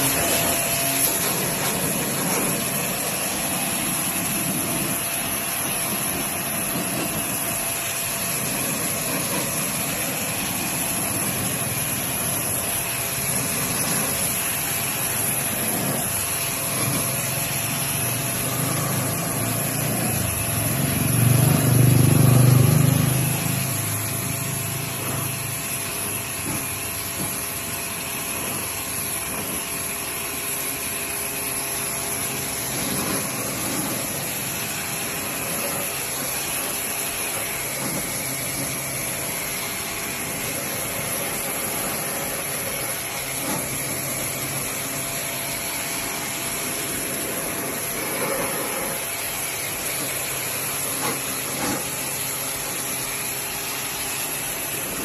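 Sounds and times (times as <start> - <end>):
steady hissing noise: 0.0 - 55.0.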